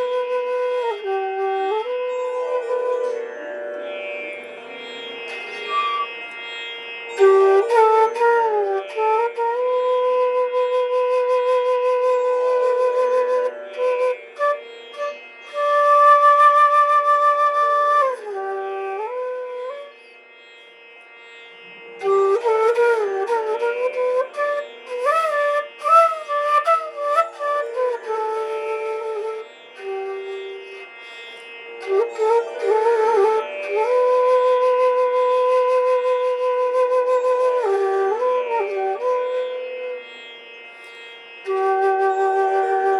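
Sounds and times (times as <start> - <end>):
slow flute melody: 0.0 - 20.3, 21.7 - 42.9.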